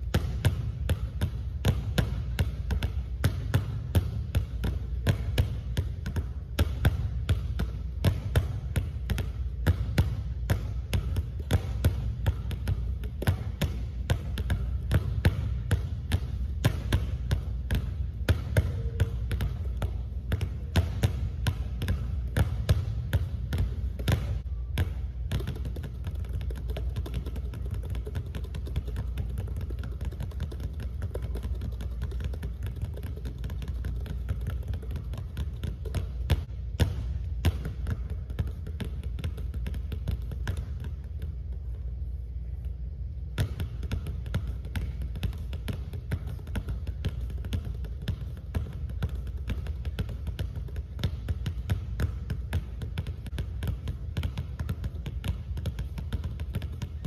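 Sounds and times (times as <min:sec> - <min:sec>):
basketballs bouncing on wooden floor: 0:00.0 - 0:41.9, 0:43.2 - 0:57.0
steady low hum: 0:00.0 - 0:57.0.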